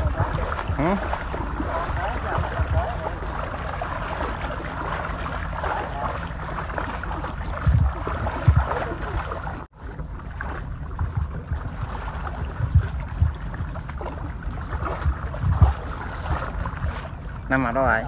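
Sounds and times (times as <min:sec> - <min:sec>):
heavy low thumps: 0:00.0 - 0:17.2
legs wading through water: 0:00.0 - 0:18.0.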